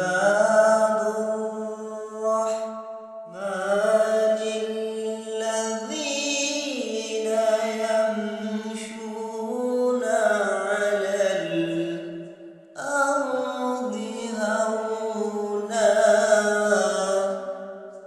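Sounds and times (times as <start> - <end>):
person chanting verses: 0.0 - 18.0.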